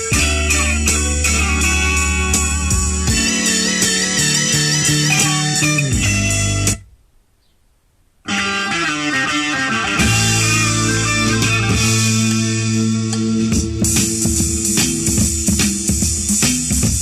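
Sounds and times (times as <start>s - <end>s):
guitar music playing back: 0.0s - 6.9s, 8.2s - 17.0s
steady bass line: 0.0s - 7.0s, 9.7s - 17.0s.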